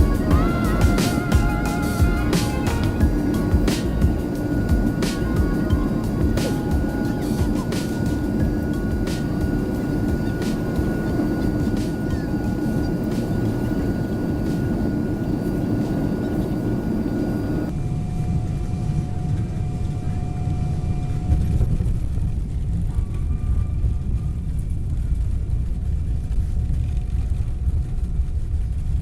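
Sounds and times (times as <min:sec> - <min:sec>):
aircraft cabin engine noise: 0:00.0 - 0:29.0
faint whine: 0:00.0 - 0:29.0.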